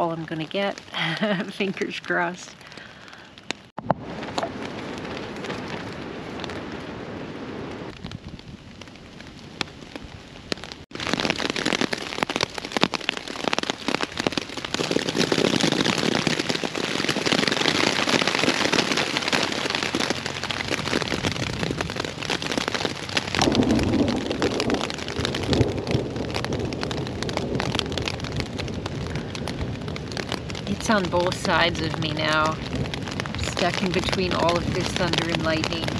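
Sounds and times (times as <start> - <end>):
heavy rain on tent fabric: 0.0 - 35.9
low thunder rumbling: 3.8 - 35.9.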